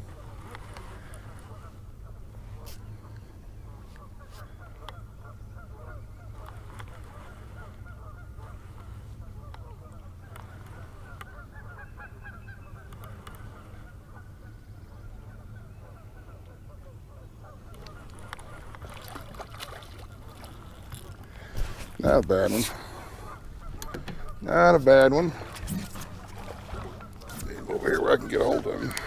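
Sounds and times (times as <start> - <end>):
geese honking: 3.8 - 29.0.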